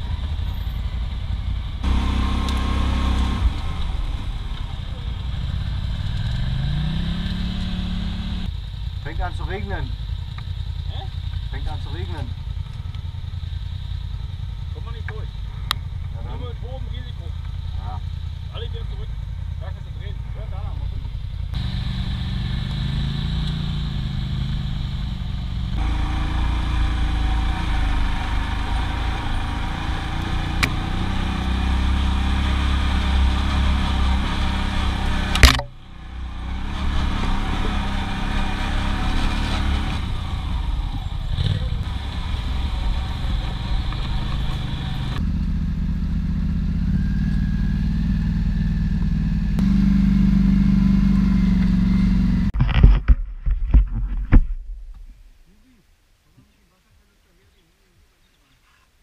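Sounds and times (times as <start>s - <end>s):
quad bike engine running: 0.0s - 52.6s.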